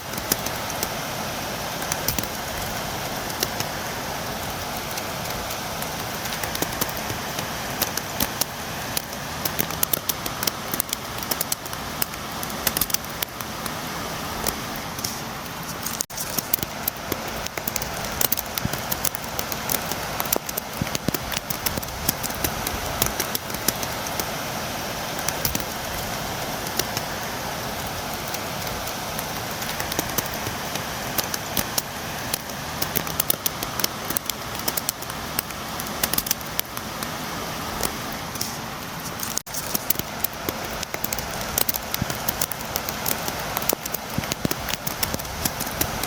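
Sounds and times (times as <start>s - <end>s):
rain beating against a window: 0.0s - 46.0s.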